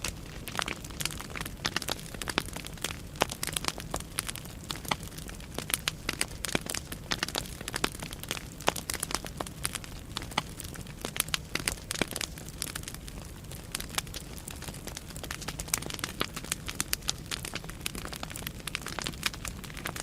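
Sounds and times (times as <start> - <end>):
firewood crackling and popping: 0.0 - 20.0
low rumble of flames: 0.0 - 20.0.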